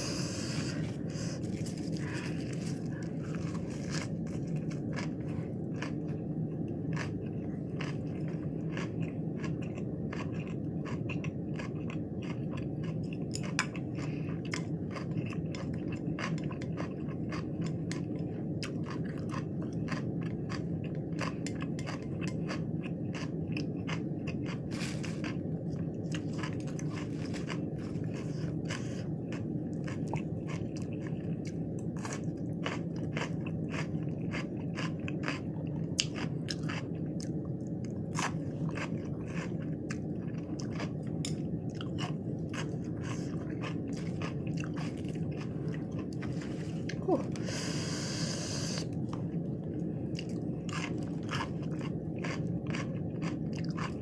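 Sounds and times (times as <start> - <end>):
crunchy chewing: 0.0 - 54.0
steady low hum: 0.0 - 54.0.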